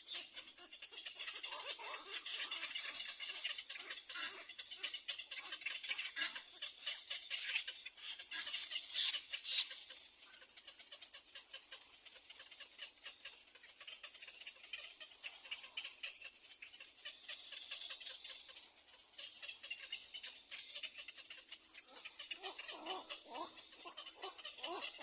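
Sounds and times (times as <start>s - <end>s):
nestling birds clicking chatter: 0.0s - 25.0s
short lower bird calls: 0.0s - 25.0s.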